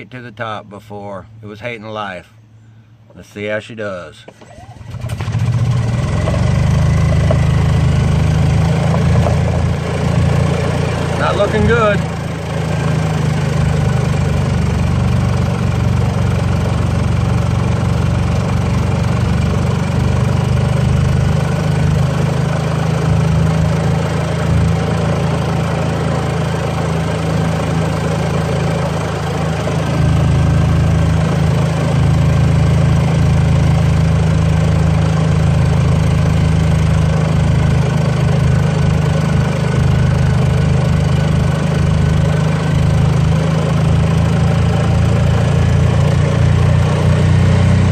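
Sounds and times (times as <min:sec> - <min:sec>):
golf cart engine running: 0:04.3 - 0:47.9.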